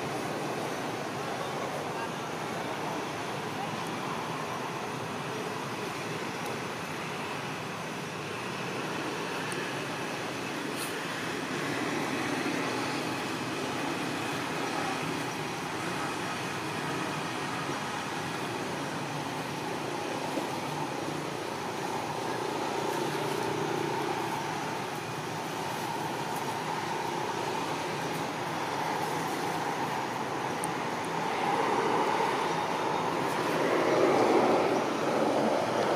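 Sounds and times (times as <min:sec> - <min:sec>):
continuous hum and hiss: 0:00.0 - 0:35.9.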